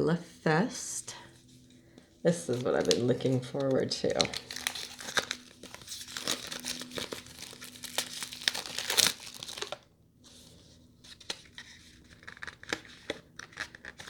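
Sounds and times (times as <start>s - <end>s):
packaging crinkling and tearing: 2.3s - 14.0s.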